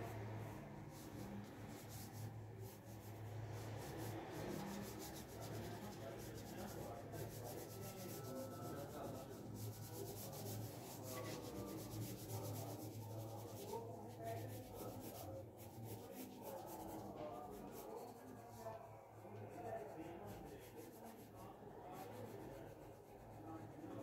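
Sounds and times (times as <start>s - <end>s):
pencil scratching on paper: 0.4s - 24.0s.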